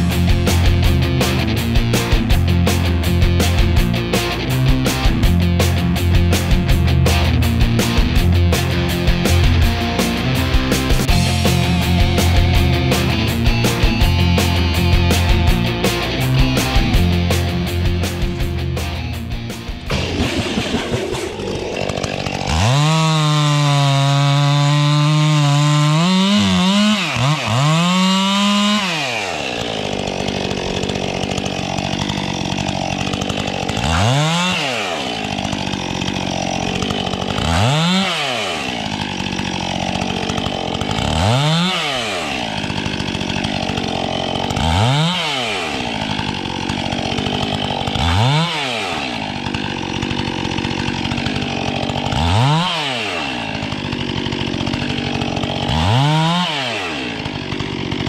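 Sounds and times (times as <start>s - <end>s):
chainsaw engine revving: 0.0s - 58.0s
chainsaw idling: 0.0s - 58.0s.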